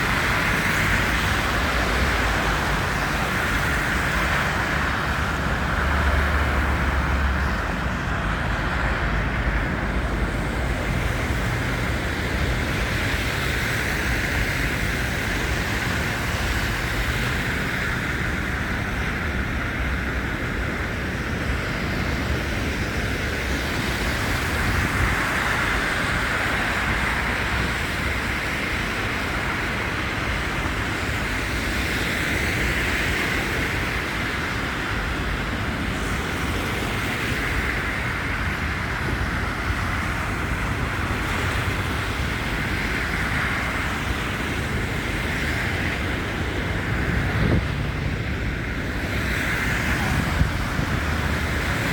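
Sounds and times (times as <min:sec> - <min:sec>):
low traffic rumble: 0:00.0 - 0:51.9
road traffic hiss: 0:00.0 - 0:51.9.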